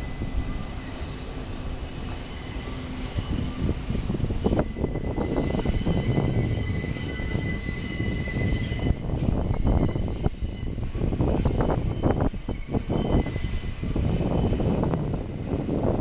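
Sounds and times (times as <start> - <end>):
subway train rumbling by: 0.0 - 16.0.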